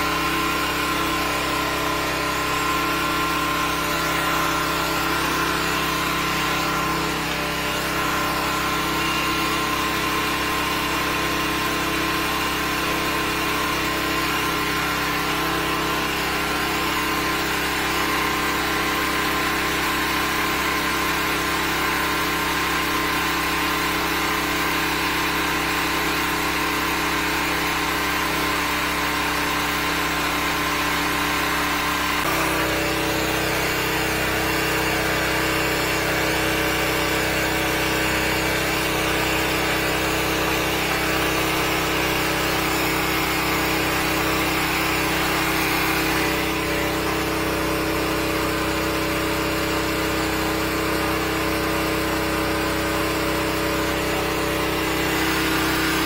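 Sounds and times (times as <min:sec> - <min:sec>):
hose jetting water into drain: 0:00.0 - 0:56.0
sewer jetter engine running: 0:00.0 - 0:56.0.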